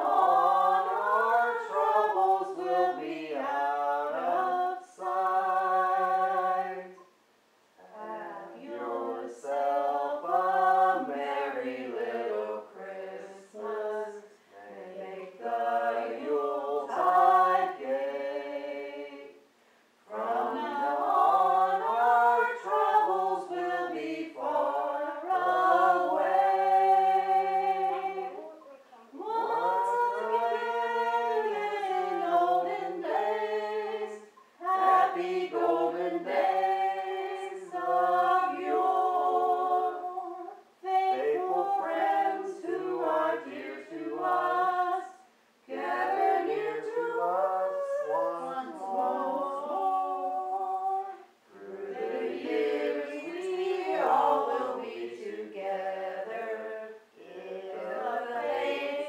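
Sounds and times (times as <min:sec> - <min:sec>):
group singing unaccompanied: 0:00.0 - 0:59.0.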